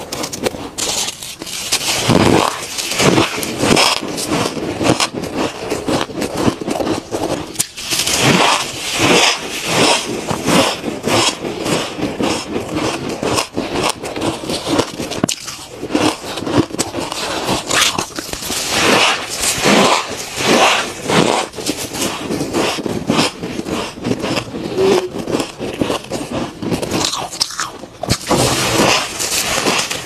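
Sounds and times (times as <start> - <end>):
crunchy squeaky chewing of ice: 0.0 - 30.0.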